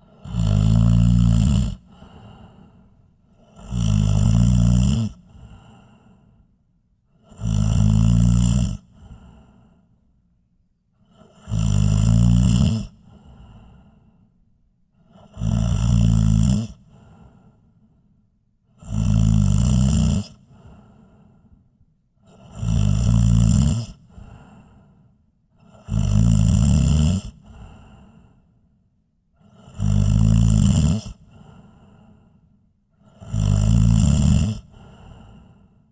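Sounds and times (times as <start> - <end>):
person snoring: 0.0 - 6.4, 7.1 - 10.0, 11.0 - 14.2, 15.0 - 17.8, 18.8 - 21.6, 22.2 - 28.5, 29.4 - 35.9.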